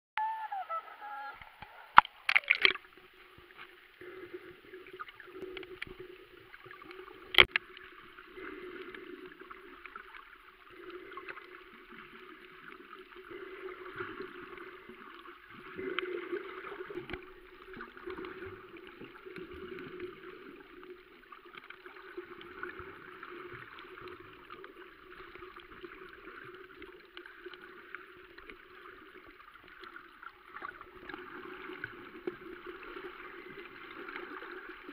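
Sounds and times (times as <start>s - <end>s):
muffled underwater water noise: 0.2s - 34.9s.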